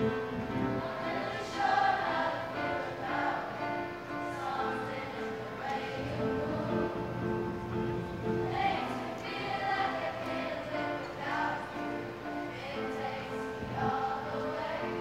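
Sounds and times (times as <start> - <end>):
children's choir singing: 0.0 - 15.0
upright piano: 0.0 - 15.0.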